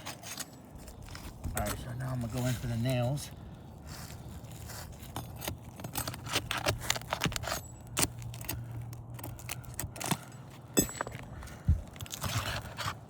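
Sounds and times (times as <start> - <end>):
metal clicking and scraping on shingles: 0.0 - 13.0.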